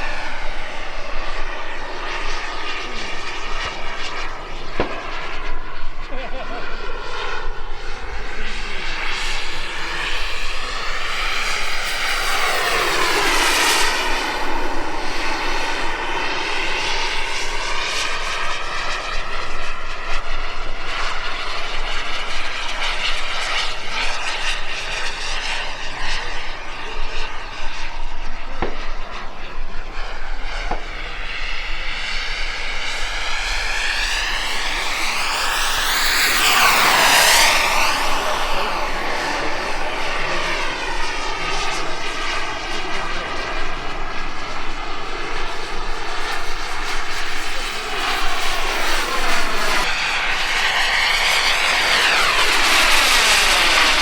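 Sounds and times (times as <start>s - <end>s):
model jet turbine whining: 0.0s - 54.0s.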